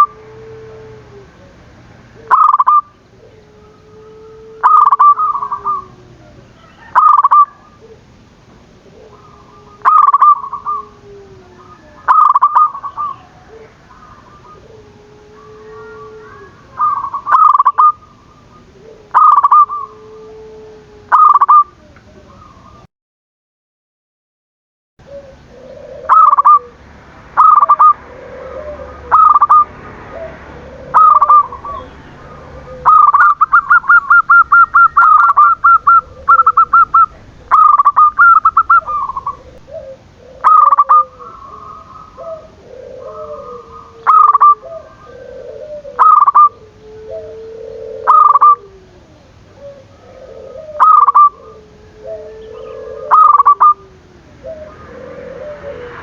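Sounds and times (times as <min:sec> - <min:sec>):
dove cooing: 0:00.0 - 0:22.9, 0:25.0 - 0:56.0.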